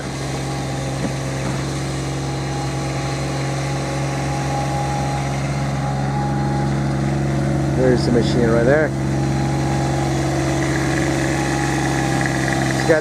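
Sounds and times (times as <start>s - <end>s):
mower engine running: 0.0s - 13.0s.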